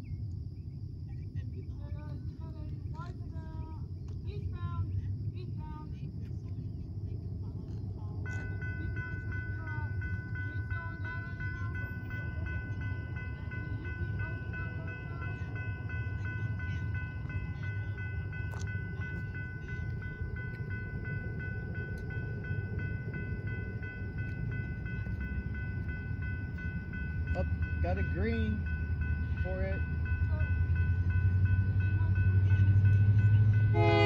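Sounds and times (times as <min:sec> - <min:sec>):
railroad crossing bell ringing: 0:01.8 - 0:34.0.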